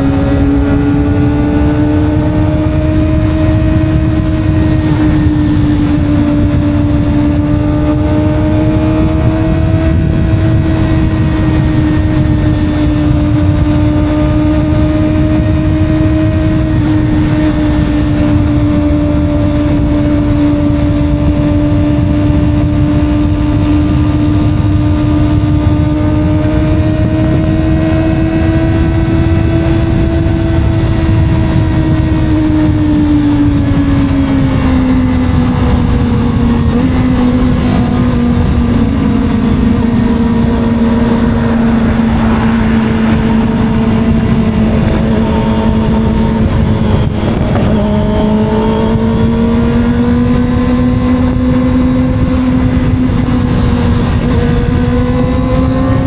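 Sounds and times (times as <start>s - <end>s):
motorcycle engine cruising: 0.0s - 56.0s
road rumble: 0.0s - 56.0s
wind: 0.0s - 56.0s.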